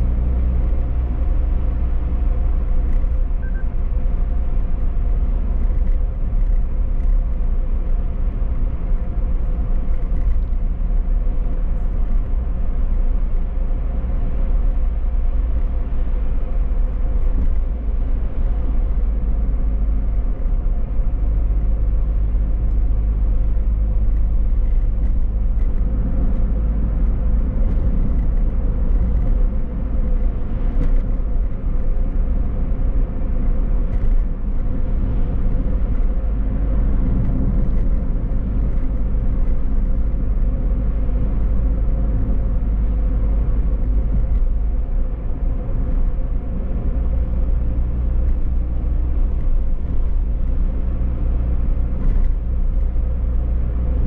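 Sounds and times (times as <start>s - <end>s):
car engine hum: 0.0s - 54.0s
road noise: 0.0s - 54.0s.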